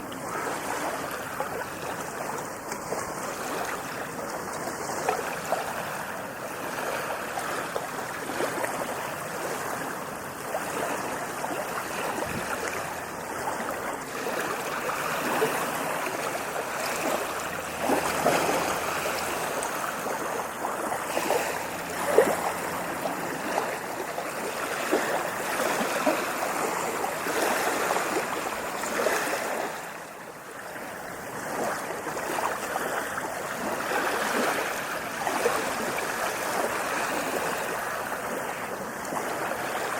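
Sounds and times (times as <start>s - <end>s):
ocean waves washing in: 0.0s - 39.9s.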